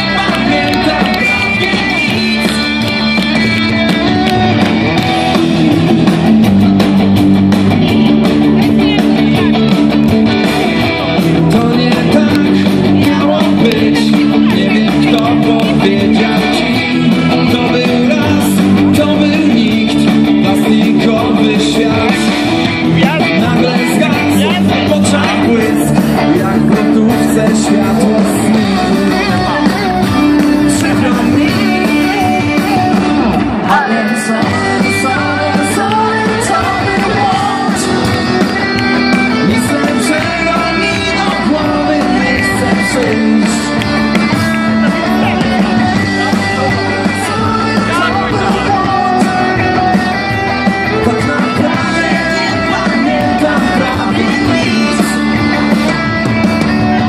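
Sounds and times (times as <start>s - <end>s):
person singing: 0.0s - 6.2s, 7.6s - 57.0s
drum kit with cymbal hits: 0.0s - 57.0s
electric guitars: 0.0s - 57.0s.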